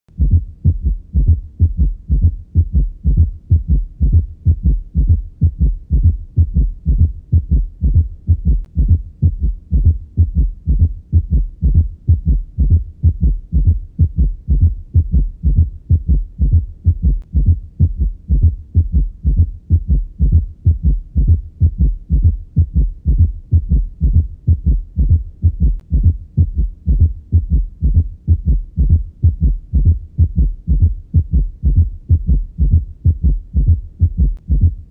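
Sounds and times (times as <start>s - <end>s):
heartbeat gallop rhythm: 0.1s - 34.9s.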